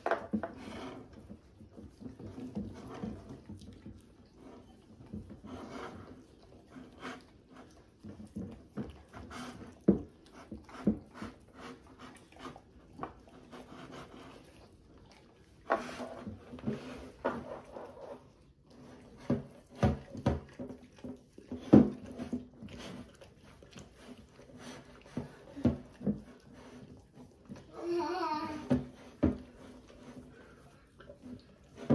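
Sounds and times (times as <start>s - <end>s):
dogs lapping and slurping: 0.0s - 31.9s.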